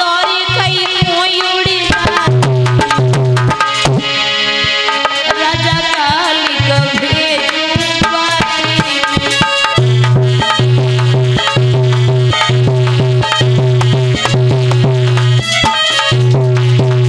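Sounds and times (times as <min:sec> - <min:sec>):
tabla drumming: 0:00.0 - 0:17.0.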